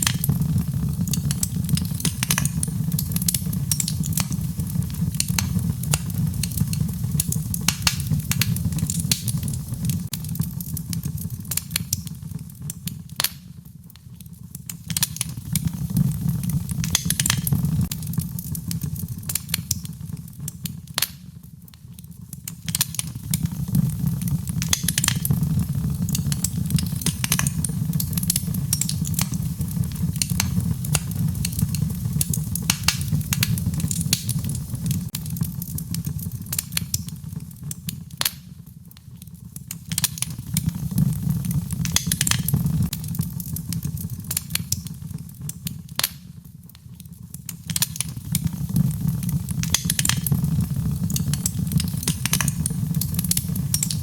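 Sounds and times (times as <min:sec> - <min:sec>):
low rumble of flames: 0:00.0 - 0:54.0
sharp pops and snaps: 0:00.0 - 0:54.0
wood fire crackling: 0:00.0 - 0:54.0.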